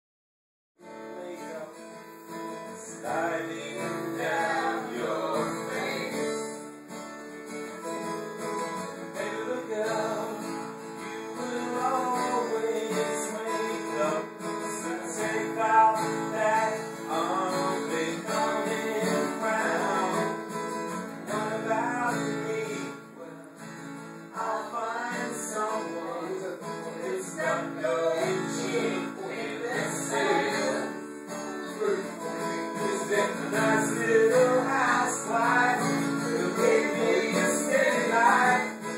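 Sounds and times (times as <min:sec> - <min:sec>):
strummed acoustic guitar music: 0:00.8 - 0:38.9.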